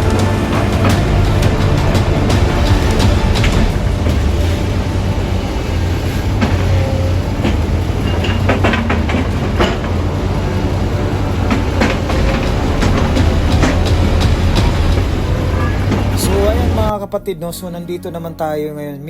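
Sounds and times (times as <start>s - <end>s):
steady low rumble: 0.0s - 18.7s.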